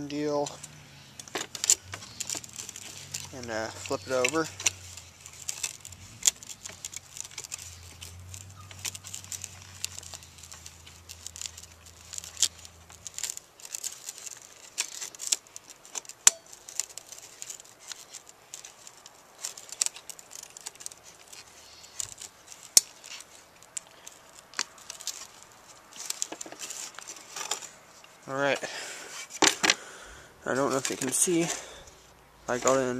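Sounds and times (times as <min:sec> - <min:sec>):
small plastic clicks and rattles: 0:00.4 - 0:28.1.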